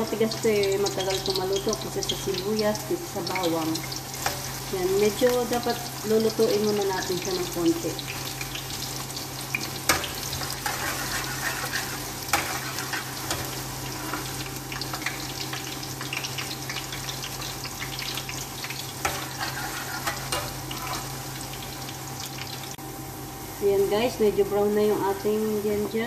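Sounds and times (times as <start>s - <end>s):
ginger sizzling in hot oil: 0.0s - 26.0s.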